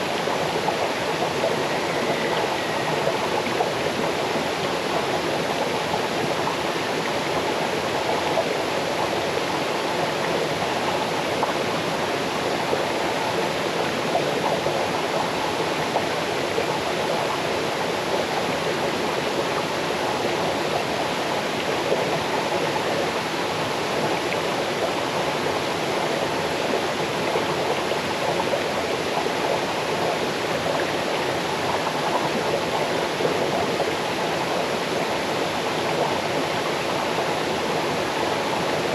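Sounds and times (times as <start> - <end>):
small waterfall over stones: 0.0 - 38.9.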